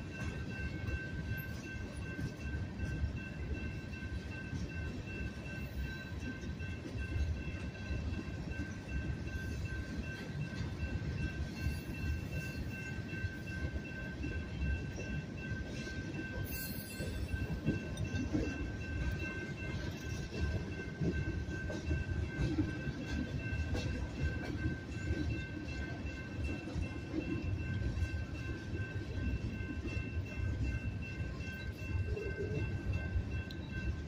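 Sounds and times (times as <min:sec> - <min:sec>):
crossing warning bell ringing: 0:00.0 - 0:34.0
train wheels rumbling and clanking: 0:00.0 - 0:34.0.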